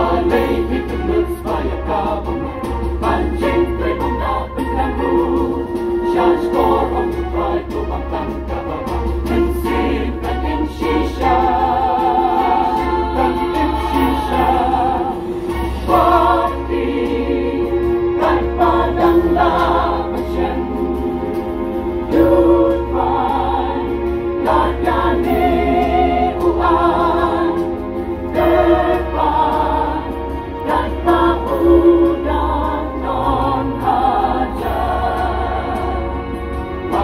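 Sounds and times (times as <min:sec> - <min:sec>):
choir singing sacred music: 0:00.0 - 0:37.0.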